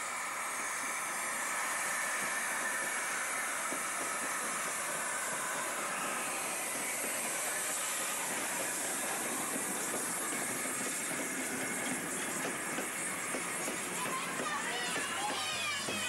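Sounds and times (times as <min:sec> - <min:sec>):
steady hiss of steam: 0:00.0 - 0:16.0
steam locomotive passing: 0:00.0 - 0:16.0.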